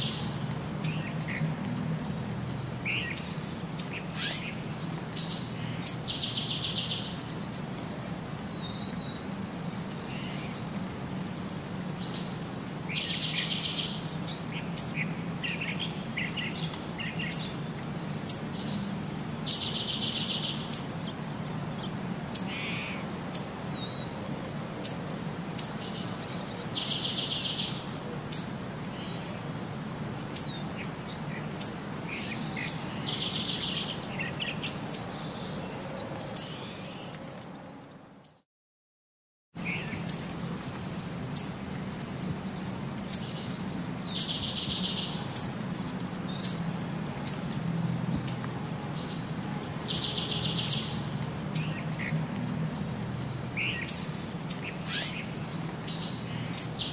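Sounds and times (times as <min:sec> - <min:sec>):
birds chirping: 0:00.0 - 0:07.6, 0:11.4 - 0:24.1, 0:25.6 - 0:29.4, 0:30.2 - 0:38.4, 0:39.6 - 0:56.9.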